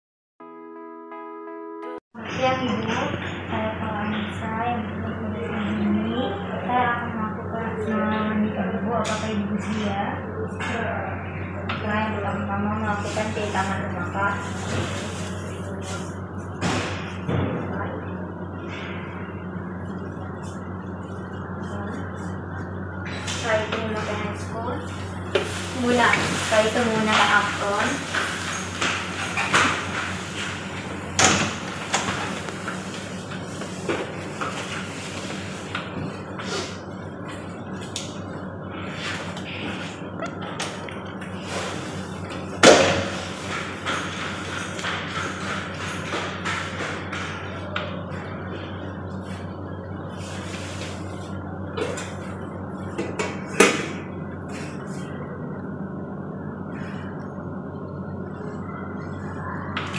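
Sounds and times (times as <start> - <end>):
steady low hum: 2.2 - 59.9.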